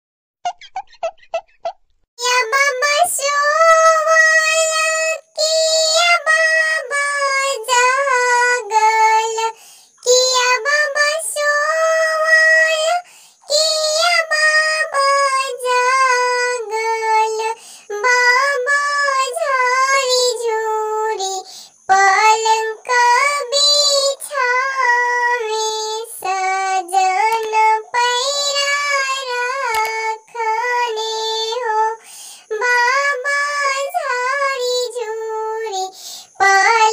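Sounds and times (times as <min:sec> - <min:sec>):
high squeaky voice singing: 0:02.2 - 0:36.9.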